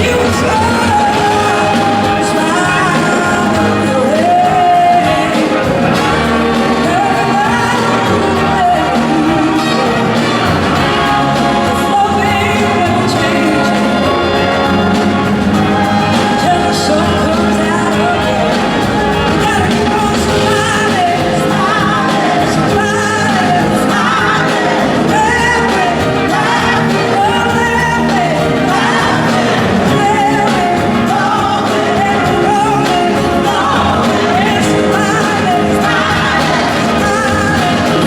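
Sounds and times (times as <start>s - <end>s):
rock and soul band playing live: 0.0s - 38.0s
wavering lead vocal: 0.0s - 38.0s.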